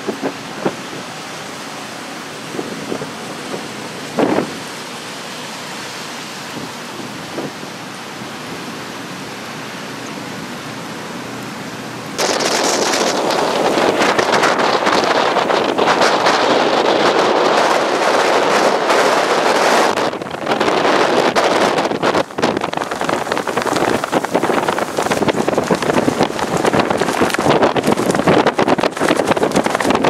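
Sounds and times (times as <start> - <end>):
storm wind buffeting microphone: 0.0 - 8.9, 12.1 - 30.0.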